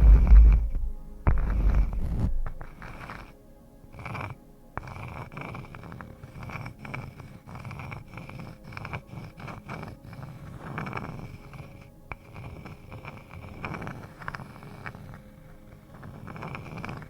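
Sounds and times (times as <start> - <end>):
close scratching and clicks: 0.0 - 3.4, 4.0 - 17.0.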